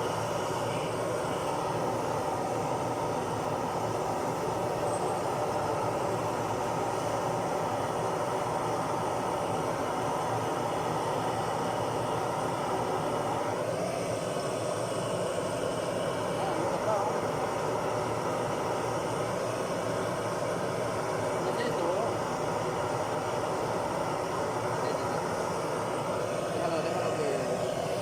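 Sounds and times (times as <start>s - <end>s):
torch flame rushing: 0.0s - 28.0s.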